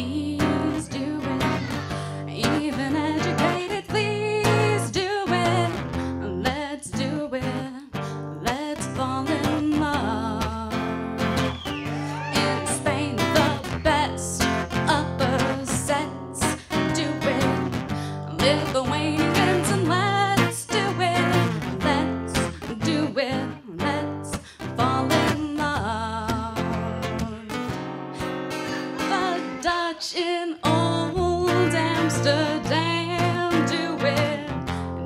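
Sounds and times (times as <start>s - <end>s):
woman singing: 0.0s - 11.4s, 12.0s - 35.0s
acoustic guitar strummed and picked: 0.0s - 35.0s.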